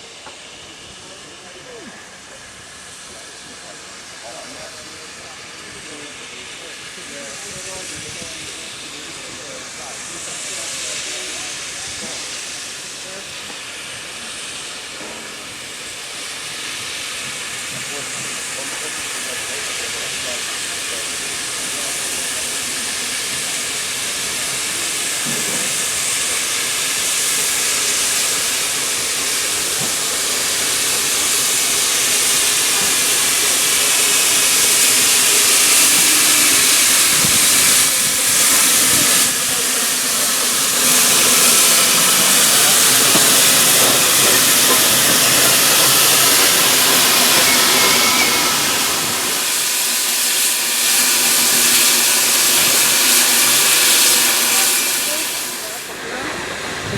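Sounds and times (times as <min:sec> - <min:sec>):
locomotive steam hissing: 0:00.0 - 0:56.9.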